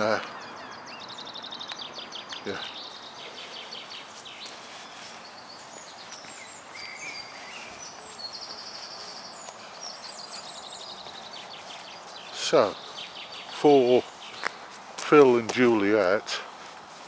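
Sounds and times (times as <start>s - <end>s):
bird trill: 0.0s - 14.6s
background hiss: 0.0s - 17.0s
small birds singing: 0.0s - 17.0s.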